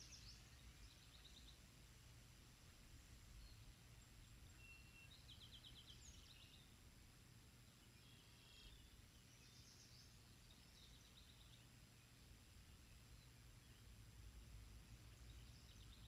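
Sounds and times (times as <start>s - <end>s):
distant songbirds chirping: 0.0s - 16.0s
low steady rumble: 0.0s - 16.0s.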